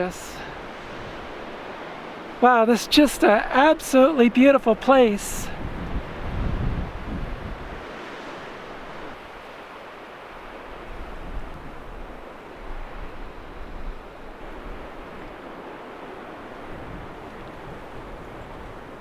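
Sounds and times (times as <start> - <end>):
strong wind blowing: 0.0 - 19.0
wind buffeting microphone: 0.0 - 19.0.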